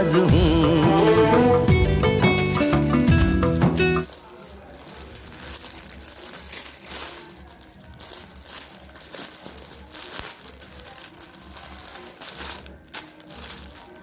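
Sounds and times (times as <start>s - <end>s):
plastic packaging crinkling: 2.4s - 14.0s.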